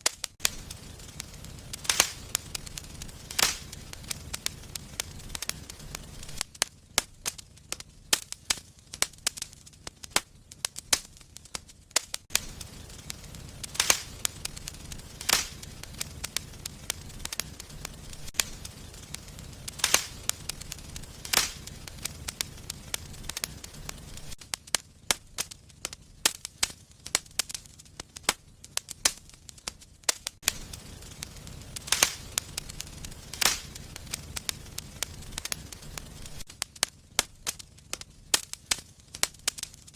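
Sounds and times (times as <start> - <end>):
wood fire crackling and popping: 0.0 - 39.9
low rush of flame: 0.4 - 11.6, 12.3 - 28.0, 30.3 - 39.9.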